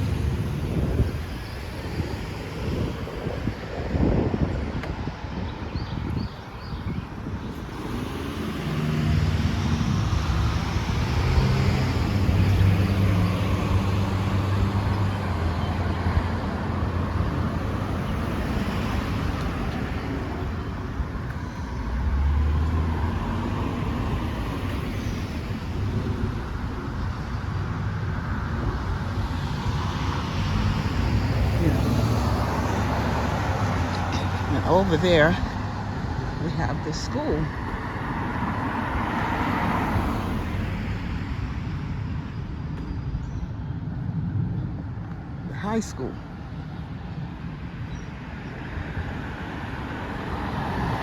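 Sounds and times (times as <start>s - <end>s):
cars passing: 0.0s - 51.0s.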